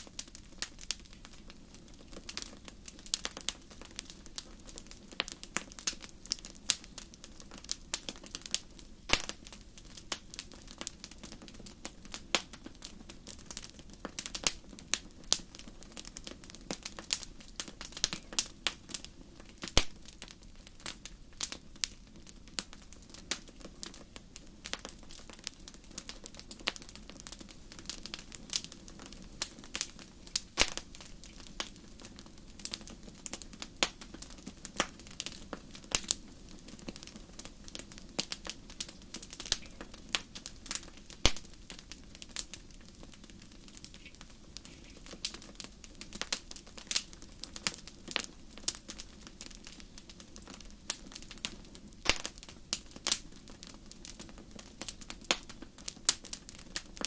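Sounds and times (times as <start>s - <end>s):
wood fire burning: 0.0s - 57.0s.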